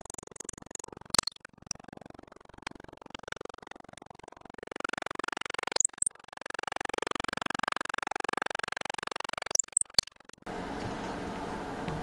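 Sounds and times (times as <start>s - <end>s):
sharp ticks: 0.0s - 10.5s.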